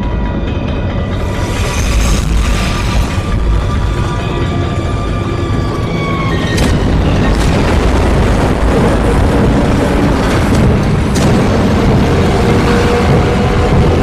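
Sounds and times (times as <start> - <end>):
sharp bangs: 1.1 - 13.9
loud car roar: 1.2 - 14.0.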